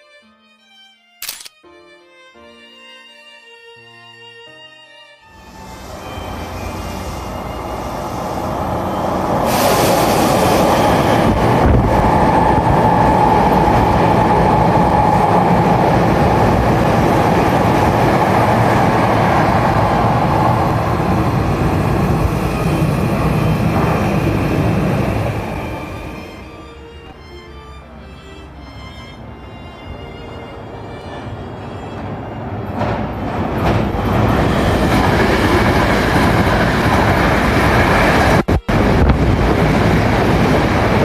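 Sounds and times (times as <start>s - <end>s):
train whine: 5.2s - 41.0s
electric train running past: 5.3s - 41.0s.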